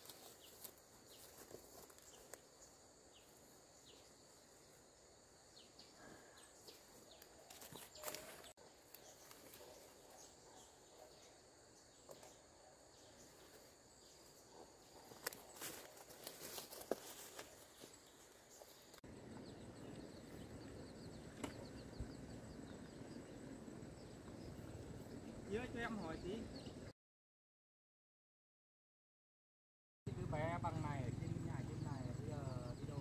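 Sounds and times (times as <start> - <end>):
faint insects buzzing: 0.0 - 26.8.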